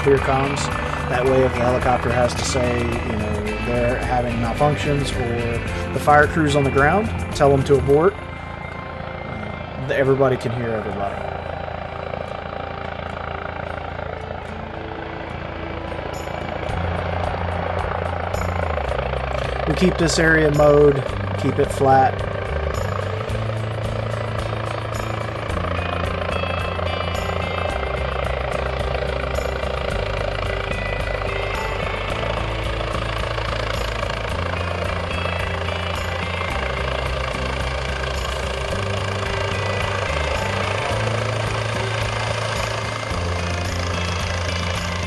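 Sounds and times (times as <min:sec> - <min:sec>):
helicopter rotor and turbine: 0:00.0 - 0:45.0.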